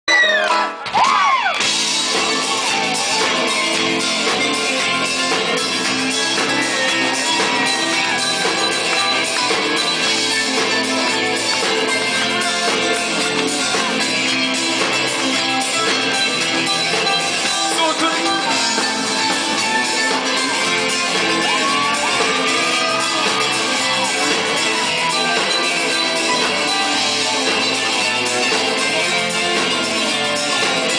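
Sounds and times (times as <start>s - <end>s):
live band playing amplified music: 0.1s - 30.9s
person singing: 2.1s - 30.9s.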